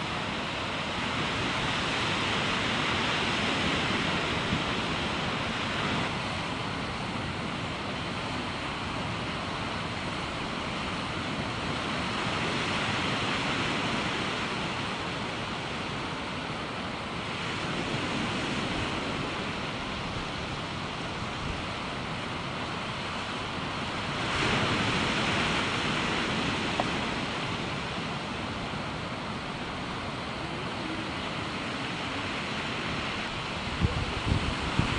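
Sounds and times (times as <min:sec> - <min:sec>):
surf washing onto beach: 0:00.0 - 0:34.9.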